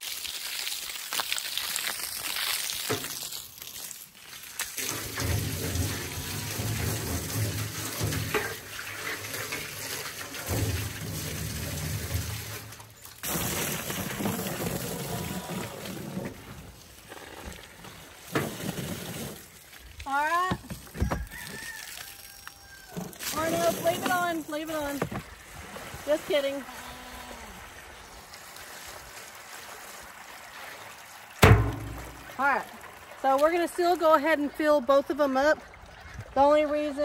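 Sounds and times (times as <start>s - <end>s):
water pouring into container: 0.0s - 20.2s, 20.8s - 37.0s.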